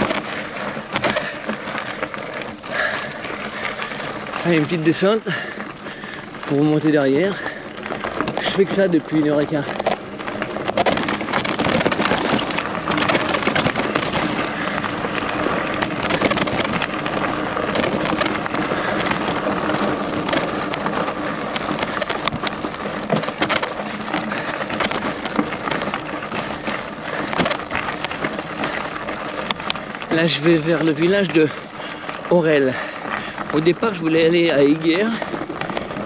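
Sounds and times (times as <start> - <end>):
bike rattling: 0.0 - 36.0
tyres crunching over gravel: 0.0 - 36.0.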